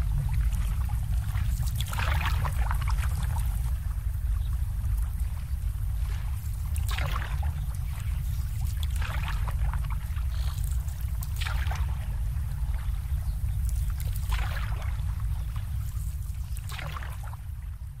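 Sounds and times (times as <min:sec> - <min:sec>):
water sloshing: 0:00.0 - 0:17.8
low rumble: 0:00.0 - 0:18.0.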